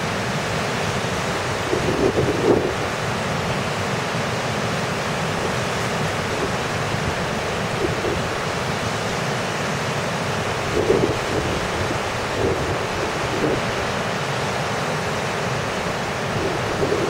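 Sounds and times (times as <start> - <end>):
sea surf breaking over rocks: 0.0 - 17.0
strong wind: 0.0 - 17.0.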